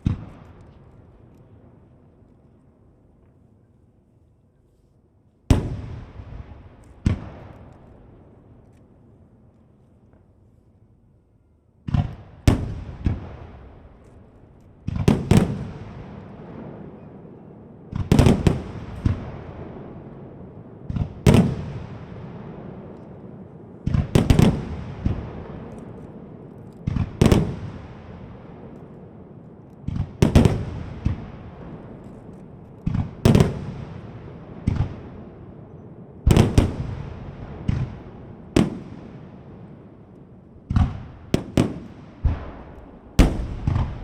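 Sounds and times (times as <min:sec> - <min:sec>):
fireworks bursting with sharp bangs: 0:00.0 - 0:01.9, 0:05.5 - 0:08.7, 0:11.9 - 0:44.0
rolling echo: 0:00.0 - 0:44.0.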